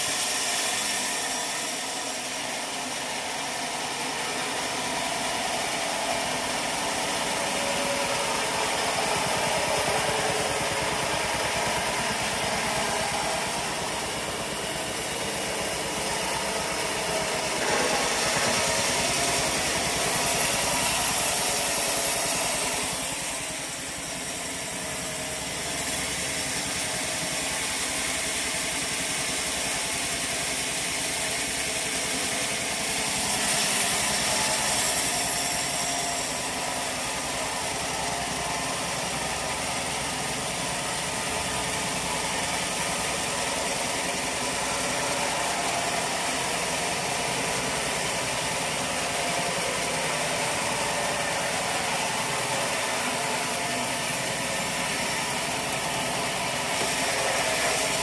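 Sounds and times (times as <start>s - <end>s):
sawmill engine humming: 0.0s - 58.0s.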